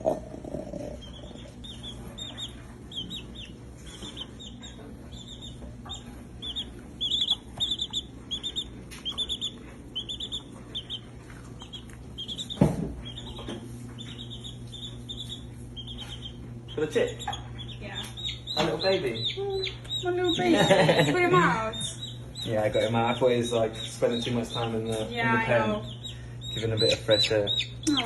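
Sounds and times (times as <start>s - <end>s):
baby chick peeping: 0.0s - 28.0s.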